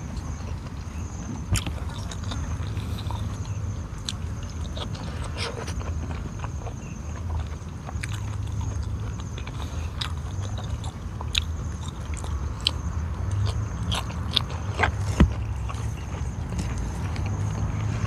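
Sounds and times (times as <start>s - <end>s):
man chewing food: 0.0s - 18.0s.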